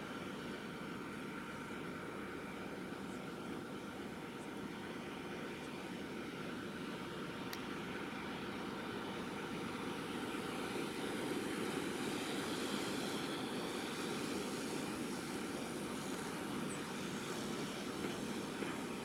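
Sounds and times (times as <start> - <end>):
faint high engine whine: 0.0 - 19.0
distant jet engines rumbling: 0.2 - 19.0.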